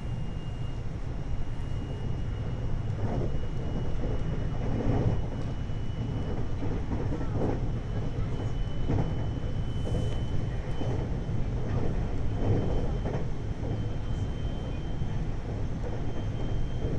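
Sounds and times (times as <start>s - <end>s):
train wheels rumbling on rail: 0.0s - 16.9s.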